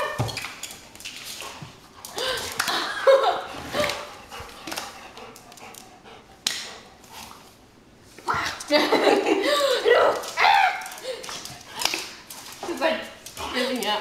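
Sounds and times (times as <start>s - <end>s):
dog claws clicking on tile floor: 0.0s - 3.2s, 3.8s - 7.6s, 8.6s - 14.0s.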